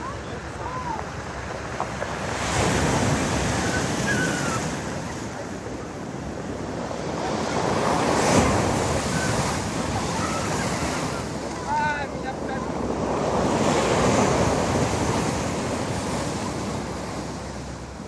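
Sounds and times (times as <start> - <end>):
waves breaking on pebble beach: 0.0 - 18.0.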